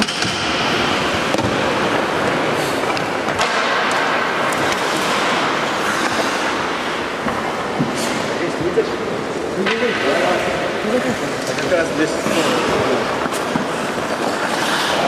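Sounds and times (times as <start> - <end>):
skates scraping on ice: 0.0 - 15.0.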